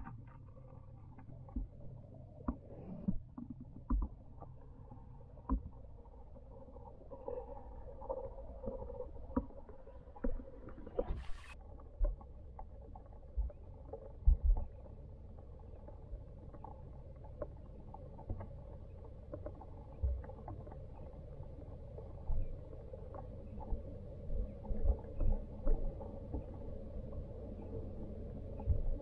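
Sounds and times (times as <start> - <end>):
low underwater rumble: 0.0 - 29.0
soft underwater knocks and clicks: 0.0 - 29.0.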